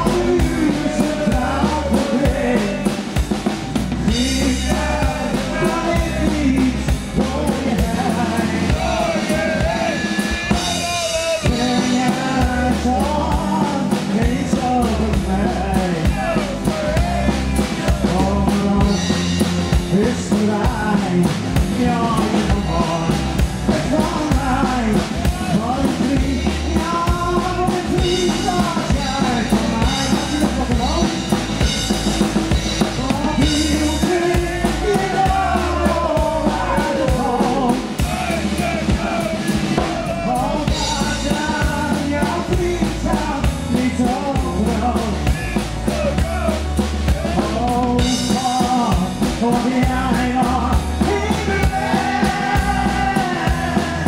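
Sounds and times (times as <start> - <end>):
acoustic and electric guitar: 0.0 - 54.0
drum kit beat: 0.0 - 54.0.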